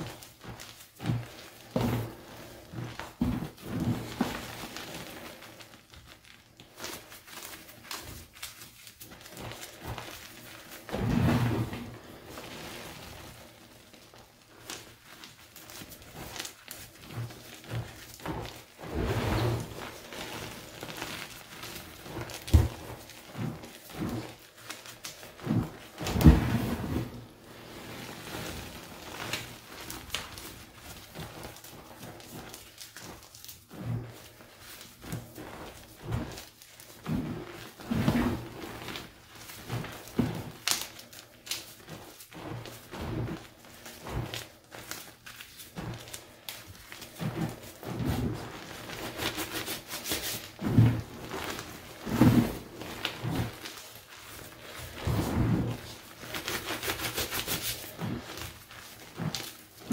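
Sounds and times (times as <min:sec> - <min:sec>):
hands crunching powdery chalk: 0:00.0 - 0:59.9.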